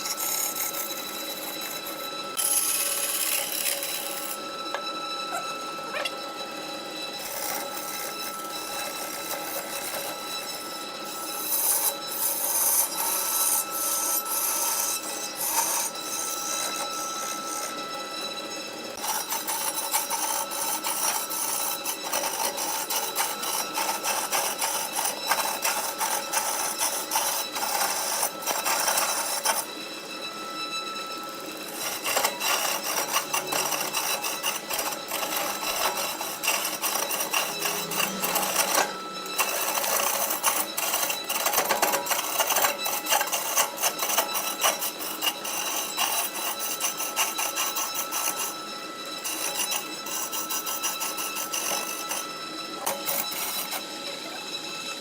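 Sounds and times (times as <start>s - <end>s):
turning tool scraping wood: 0.0s - 6.3s, 7.0s - 29.8s, 31.1s - 54.4s
wood lathe running: 0.0s - 55.0s.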